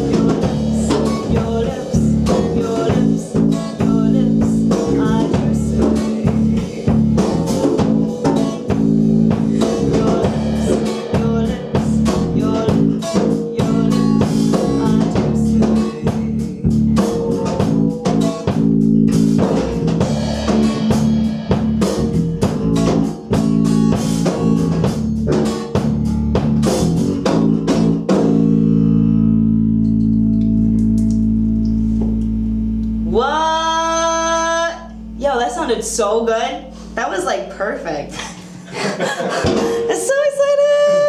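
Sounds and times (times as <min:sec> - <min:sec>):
drum kit: 0:00.0 - 0:32.2, 0:33.8 - 0:40.1
electric bass: 0:00.0 - 0:38.7
acoustic guitar: 0:00.0 - 0:41.0.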